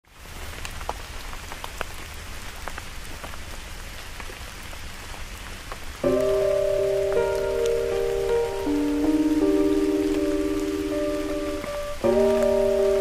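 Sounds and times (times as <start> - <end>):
rain hissing: 0.1 - 13.0.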